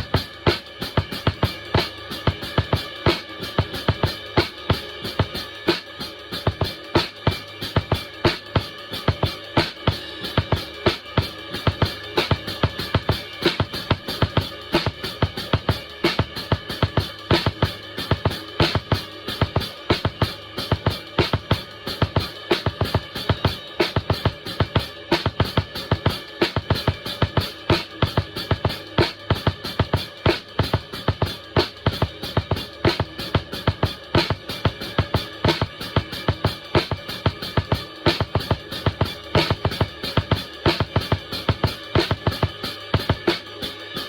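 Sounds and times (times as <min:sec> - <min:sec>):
backing music track: 0:00.0 - 0:44.0
drum kit driving beat: 0:00.0 - 0:44.0.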